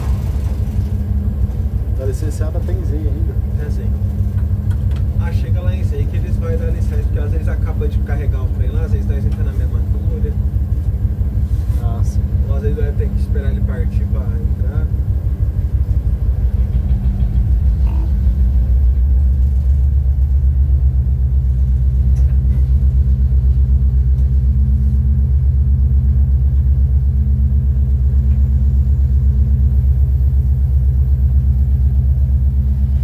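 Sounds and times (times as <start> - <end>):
locomotive engine pulsing drone: 0.0 - 33.0.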